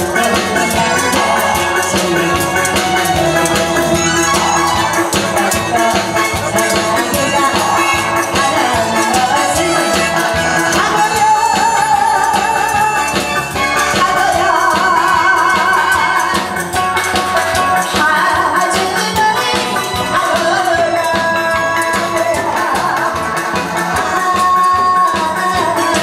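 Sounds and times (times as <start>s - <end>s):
amplified band music with drums: 0.0s - 26.0s
woman singing with vibrato: 0.0s - 26.0s.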